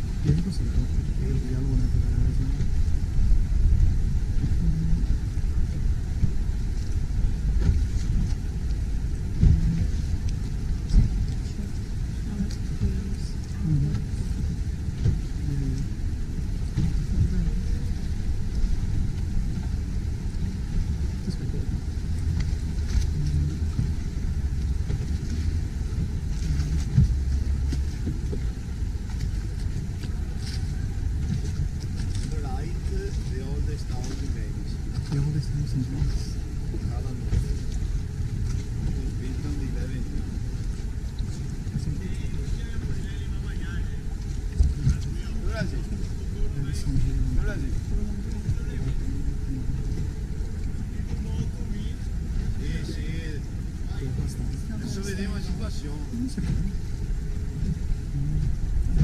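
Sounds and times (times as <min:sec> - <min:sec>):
motorboat rumble: 0:00.0 - 0:59.0.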